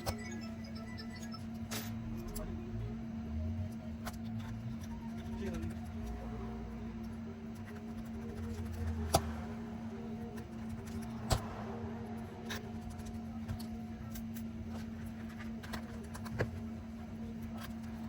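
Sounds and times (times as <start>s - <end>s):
faint background music: 0.0s - 18.0s
low hum: 0.0s - 18.0s.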